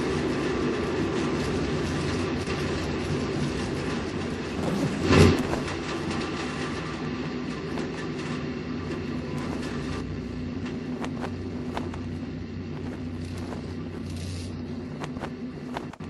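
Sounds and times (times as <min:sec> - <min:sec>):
rocket launch rumble with crackles: 0:00.0 - 0:16.0.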